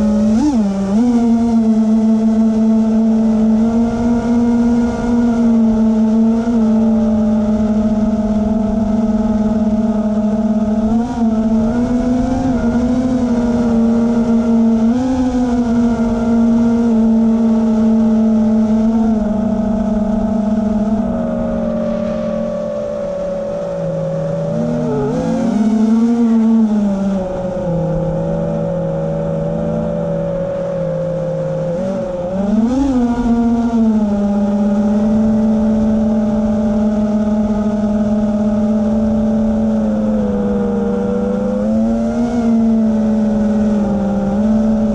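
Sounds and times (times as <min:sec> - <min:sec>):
aircraft electric motors humming: 0:00.0 - 0:44.9.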